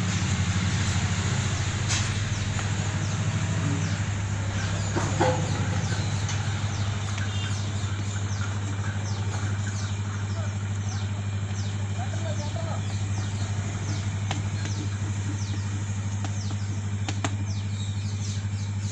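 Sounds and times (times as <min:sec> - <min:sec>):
low motor hum: 0:00.0 - 0:18.9.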